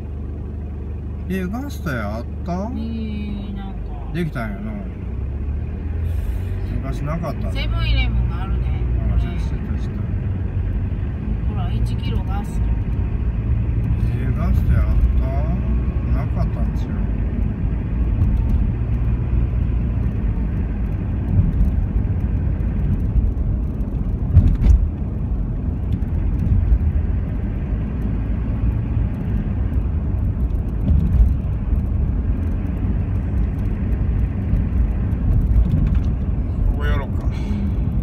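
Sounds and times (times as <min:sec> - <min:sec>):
car cabin road rumble: 0:00.0 - 0:38.0.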